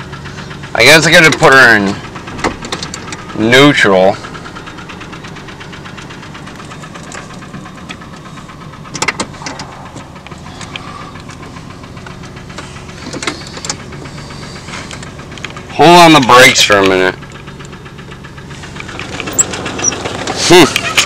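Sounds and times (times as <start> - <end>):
truck engine idling with knocking: 0.0 - 21.0.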